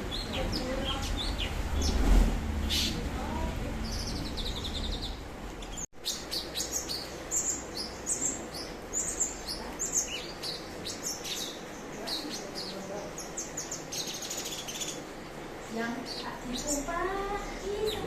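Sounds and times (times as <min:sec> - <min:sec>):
songbird trilling and chirping: 0:00.0 - 0:02.0, 0:02.6 - 0:18.0.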